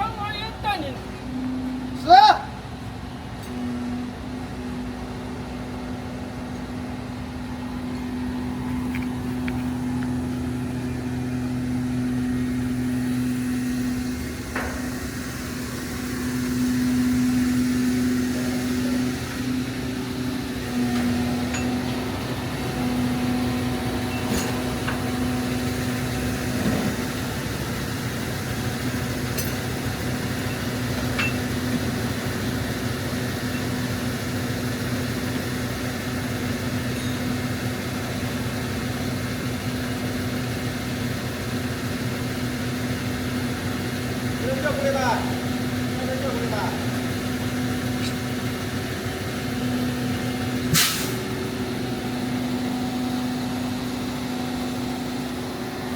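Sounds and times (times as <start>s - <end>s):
heavy machine engine droning: 0.0s - 55.9s.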